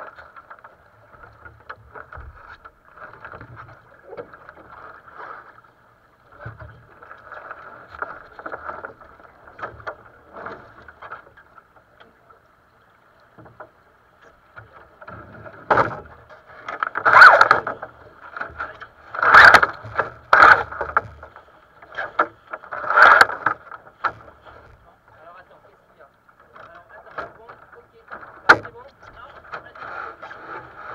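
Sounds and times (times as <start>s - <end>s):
water splashing against hull: 0.0s - 30.9s.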